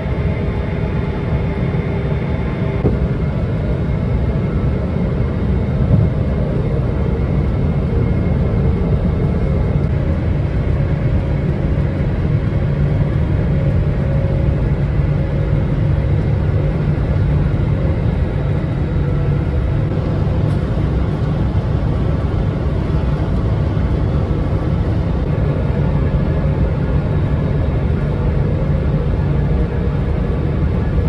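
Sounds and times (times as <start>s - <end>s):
low vehicle rumble: 2.7s - 31.0s.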